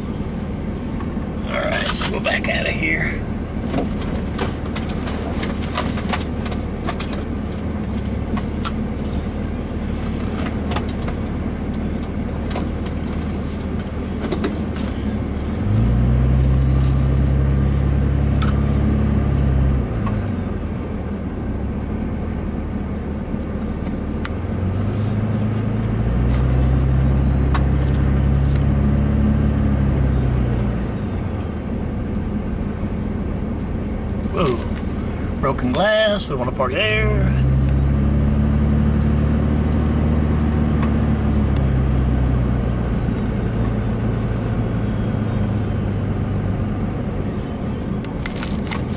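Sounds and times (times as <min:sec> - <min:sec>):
car engine: 0:00.0 - 0:48.9
road noise: 0:00.0 - 0:48.9.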